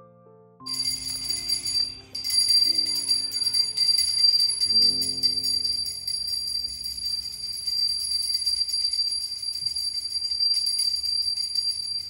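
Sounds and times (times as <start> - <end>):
handbell ringing rapidly: 0.7 - 12.0.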